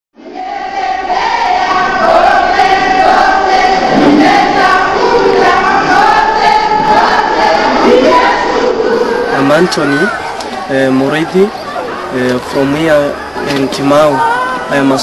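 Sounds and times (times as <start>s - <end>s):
group of voices singing: 0.2s - 15.0s.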